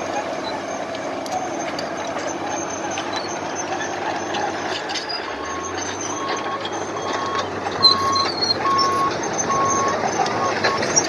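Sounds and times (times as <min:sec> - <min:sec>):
low engine hum: 0:00.0 - 0:11.0
reversing alarm beeping: 0:00.0 - 0:11.0.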